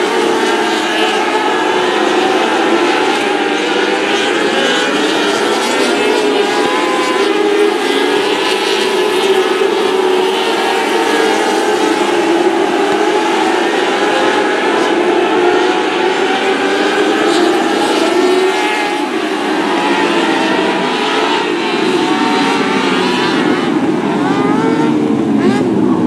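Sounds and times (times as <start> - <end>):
race car engines at high revs: 0.0 - 26.0.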